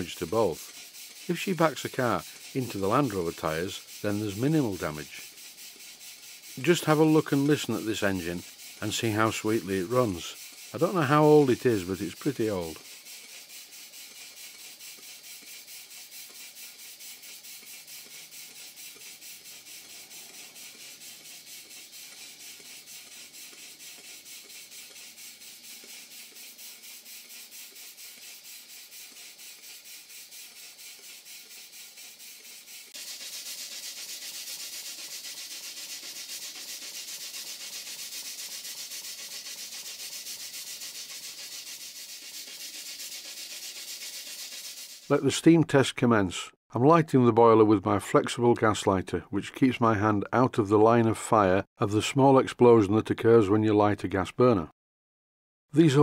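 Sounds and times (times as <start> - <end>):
steam engine exhaust hissing: 0.0 - 45.3.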